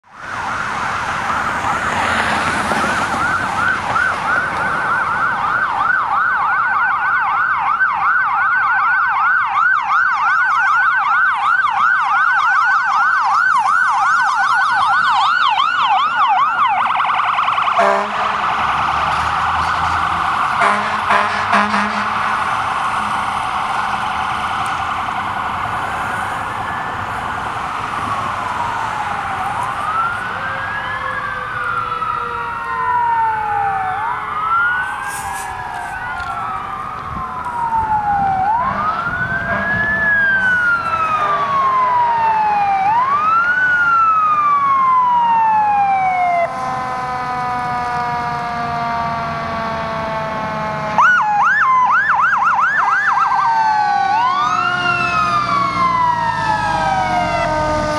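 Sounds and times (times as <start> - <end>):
sirens wailing: 0.0 - 57.9
siren fast yelp: 0.3 - 19.2, 20.4 - 57.9.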